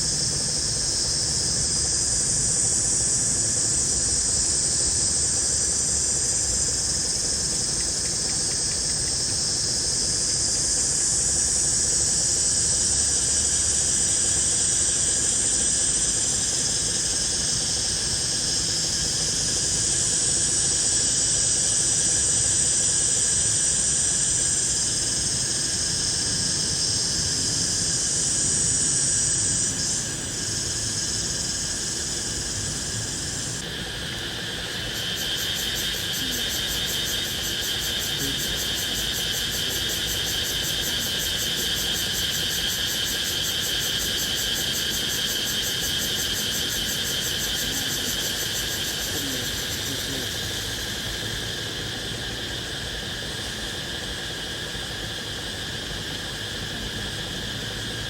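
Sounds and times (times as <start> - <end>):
insect pulsing trill: 0.0 - 58.0
insects shrill chorus: 0.0 - 58.0.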